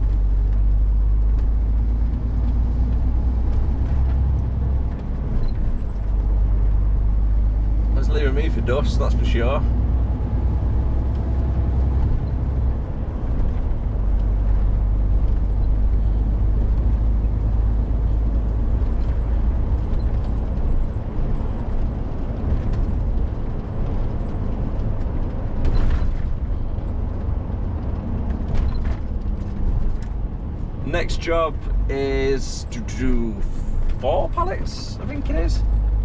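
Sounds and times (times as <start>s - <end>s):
lorry engine rumble: 0.0s - 36.0s
road noise: 0.0s - 36.0s.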